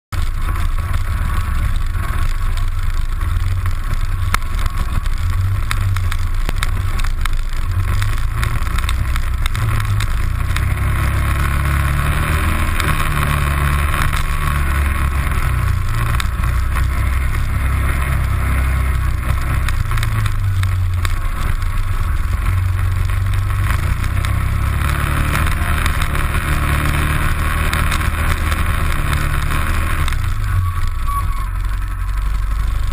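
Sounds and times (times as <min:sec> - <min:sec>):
atv engine rumble: 0:00.0 - 0:32.9
steady rushing noise: 0:00.1 - 0:32.9.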